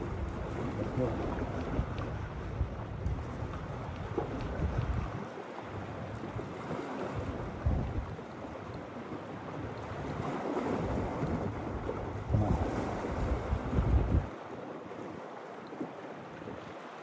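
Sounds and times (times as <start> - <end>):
wind buffeting microphone: 0.0 - 16.8
small waves washing ashore: 0.0 - 17.0.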